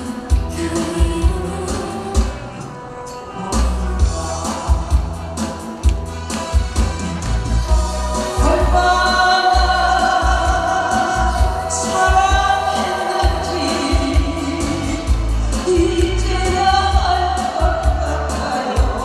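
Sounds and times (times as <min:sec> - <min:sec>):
woman singing into microphone: 0:00.0 - 0:05.0, 0:07.7 - 0:19.0
backing track with drum beat: 0:00.0 - 0:19.0.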